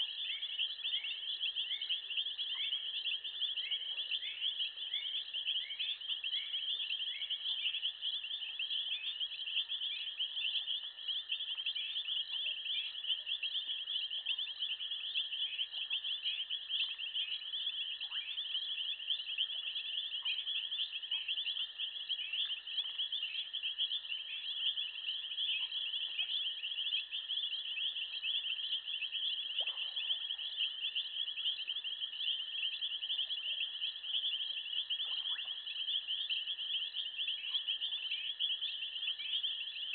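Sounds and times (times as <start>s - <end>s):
insects pulsing chirr: 0.0s - 39.9s.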